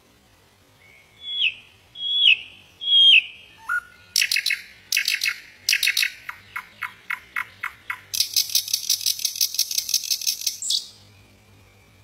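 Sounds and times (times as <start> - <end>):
nightingale singing: 0.3 - 12.0.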